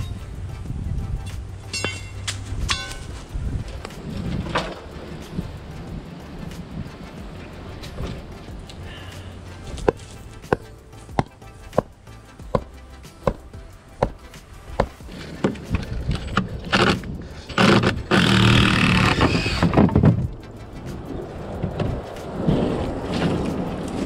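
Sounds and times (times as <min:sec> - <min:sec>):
dry tree branches rustling: 0:00.0 - 0:13.0, 0:13.8 - 0:24.0.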